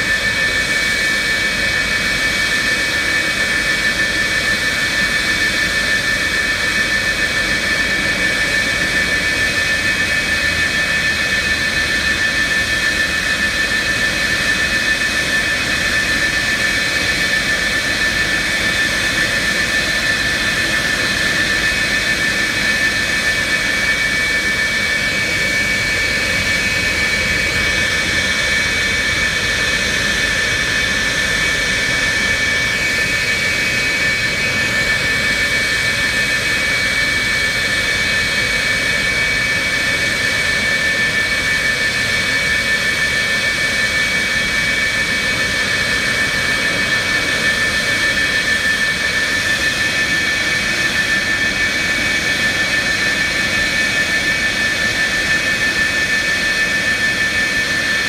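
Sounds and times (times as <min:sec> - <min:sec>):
high-pitched jet whine: 0:00.0 - 0:58.0
jet engines running: 0:00.0 - 0:58.0.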